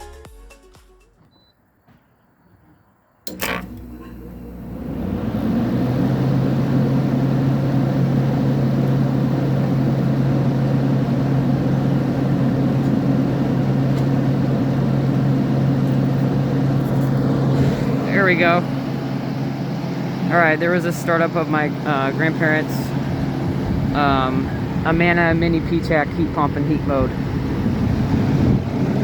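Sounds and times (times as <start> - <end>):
compressor low hum: 2.4 - 29.0
fan blowing: 3.3 - 29.0.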